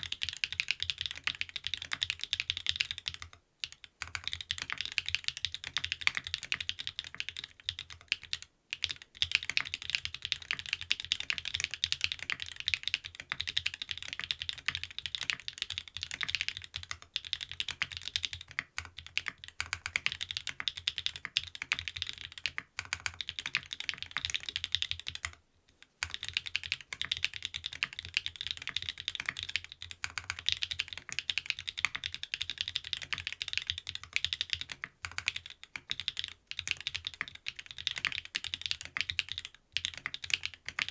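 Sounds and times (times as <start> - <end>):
mechanical keyboard typing: 0.0 - 25.4, 26.0 - 40.9.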